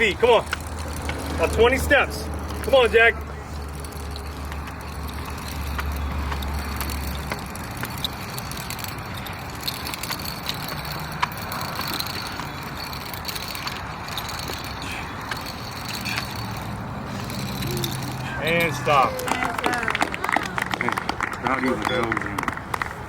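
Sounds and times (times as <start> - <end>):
truck rolling: 0.0 - 23.0.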